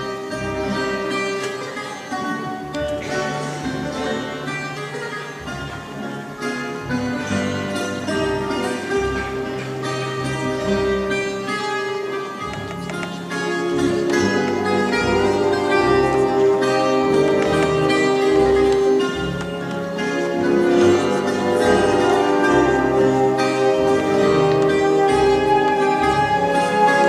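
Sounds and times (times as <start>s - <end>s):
orchestral held string notes: 0.0s - 27.0s
plucked guitars melody: 0.0s - 27.0s.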